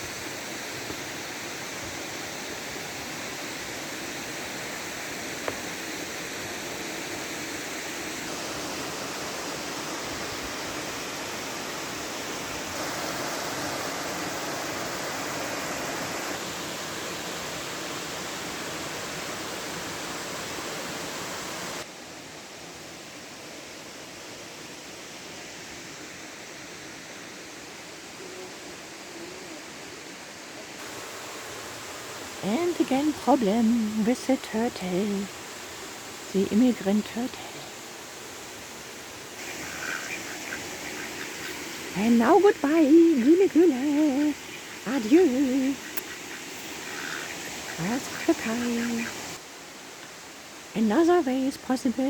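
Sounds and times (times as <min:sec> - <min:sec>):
waterfall rushing: 0:00.0 - 0:22.0, 0:25.6 - 0:52.0.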